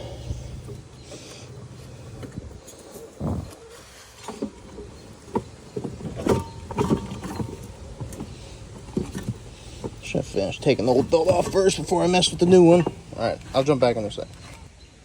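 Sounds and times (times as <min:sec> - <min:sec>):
hands handling rubber belt: 0:00.0 - 0:14.8.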